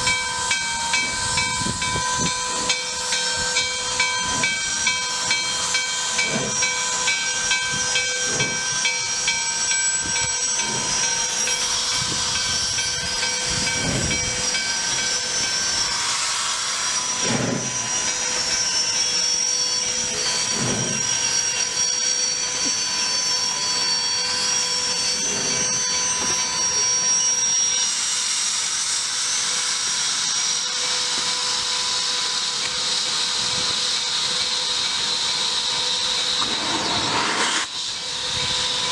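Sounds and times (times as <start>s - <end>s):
steam locomotive hissing steam: 0.0s - 38.9s.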